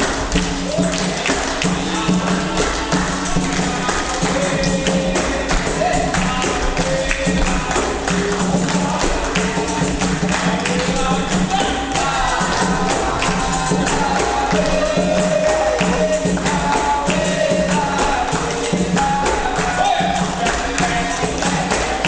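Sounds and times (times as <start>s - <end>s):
tambourine and percussion: 0.0s - 22.0s
voices singing: 0.0s - 22.0s.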